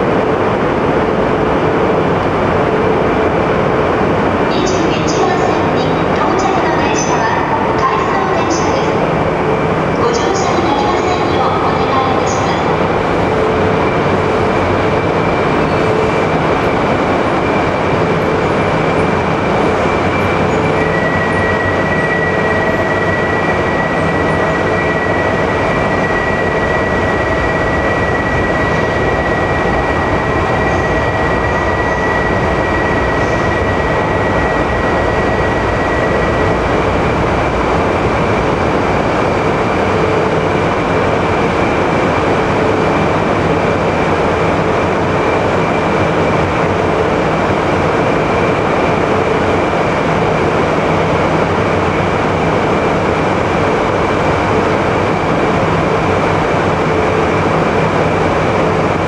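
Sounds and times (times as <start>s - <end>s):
loud steady mechanical noise: 0.0s - 59.0s
train rolling along platform: 0.0s - 59.0s.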